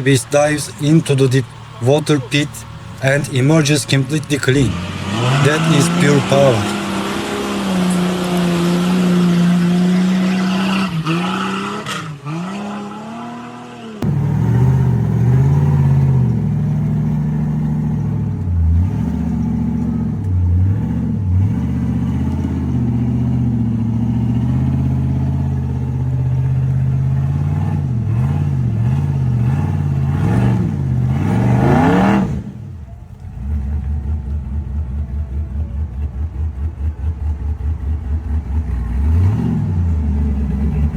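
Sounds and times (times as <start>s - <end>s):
off-road engines revving: 0.0s - 40.9s.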